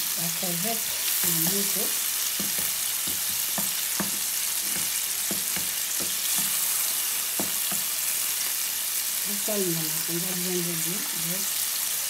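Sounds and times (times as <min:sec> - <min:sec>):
shrimp sizzling in hot oil: 0:00.0 - 0:12.0.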